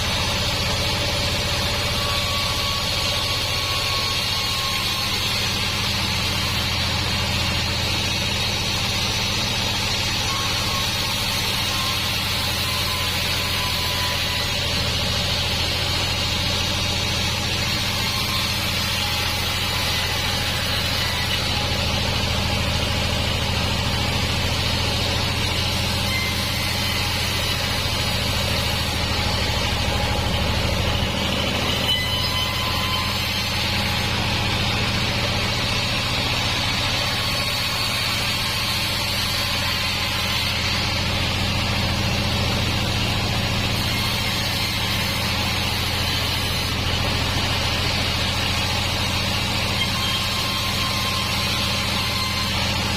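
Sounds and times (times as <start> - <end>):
band sawmill drone: 0.0 - 52.9.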